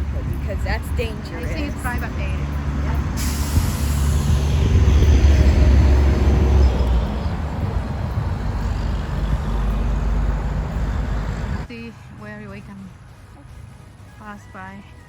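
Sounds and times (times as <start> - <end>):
heavy vehicle engine passing: 0.0 - 13.6.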